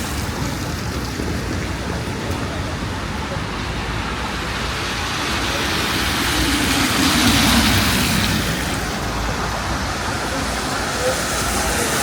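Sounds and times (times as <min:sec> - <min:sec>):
car passing on wet street: 0:00.0 - 0:12.0.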